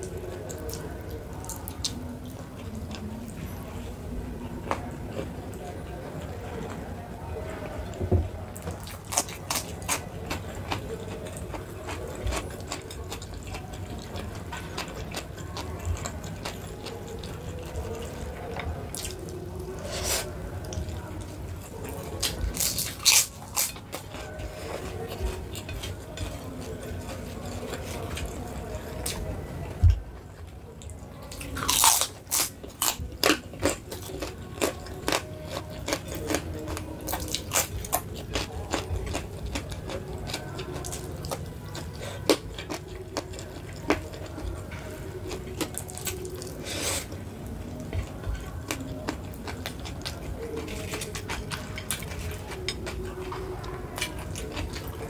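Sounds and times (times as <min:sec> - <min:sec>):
wet chewing: 0:08.6 - 0:55.0.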